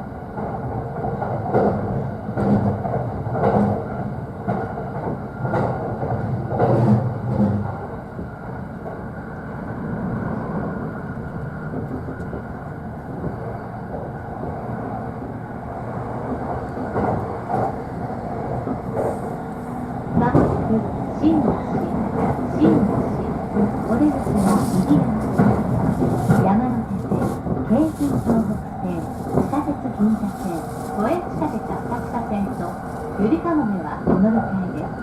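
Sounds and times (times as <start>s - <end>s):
train rolling rumble: 0.0s - 35.0s.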